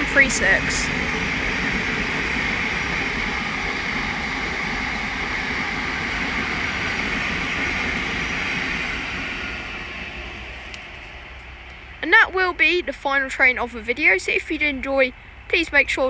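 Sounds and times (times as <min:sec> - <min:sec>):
train passing with rushing roar: 0:00.0 - 0:16.0.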